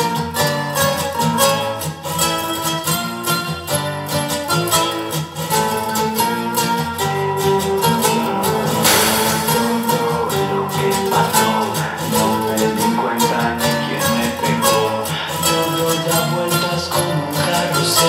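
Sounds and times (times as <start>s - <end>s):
plucked notes over bass music: 0.0s - 18.0s.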